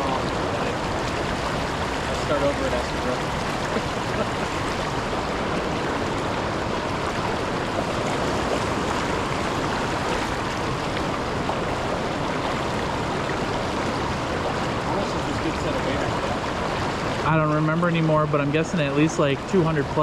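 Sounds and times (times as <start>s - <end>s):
river water rushing over rocks: 0.0s - 19.1s.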